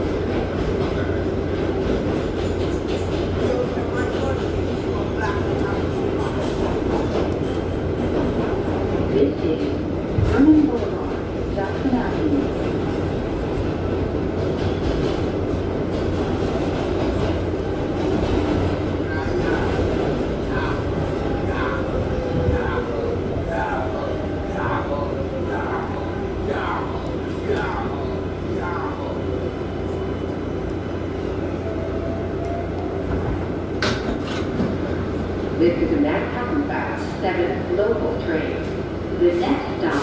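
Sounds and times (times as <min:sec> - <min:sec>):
subway train rumble: 0:00.0 - 0:40.0.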